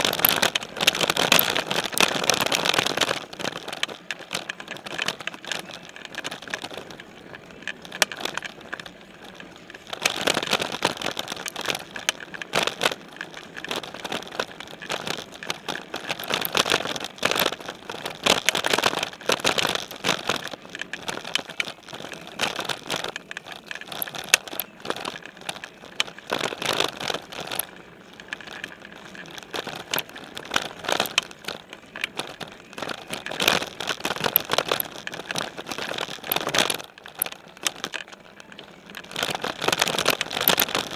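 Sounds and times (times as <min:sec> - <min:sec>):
bike rattling over bumps: 0:00.0 - 0:40.9
tyres crunching on dirt: 0:00.0 - 0:40.9.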